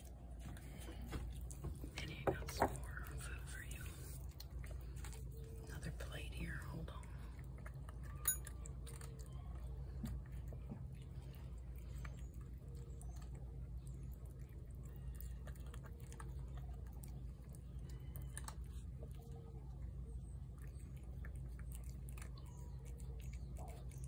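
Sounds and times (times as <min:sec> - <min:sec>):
cat chewing and lapping food: 0:00.0 - 0:24.0
low steady hum: 0:00.0 - 0:24.0.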